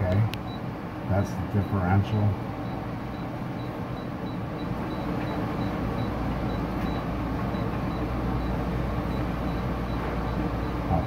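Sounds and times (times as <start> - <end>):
refrigeration unit humming: 0.0 - 11.0.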